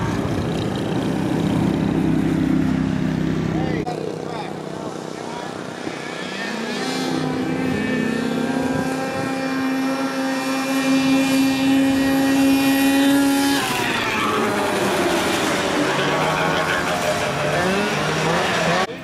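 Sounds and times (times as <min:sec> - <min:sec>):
race buggy engines at high revs: 0:00.0 - 0:19.0.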